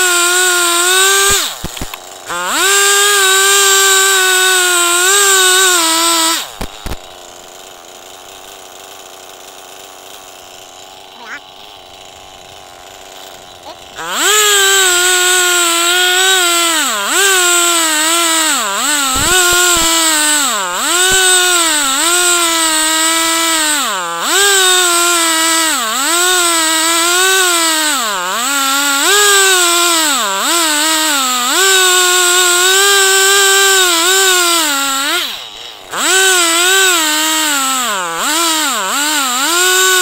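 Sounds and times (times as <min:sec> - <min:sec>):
chainsaw cutting log: 0:00.0 - 0:40.0.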